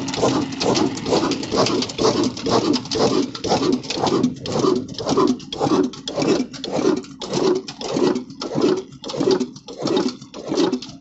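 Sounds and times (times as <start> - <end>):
diesel engine thumping: 0.0 - 10.2.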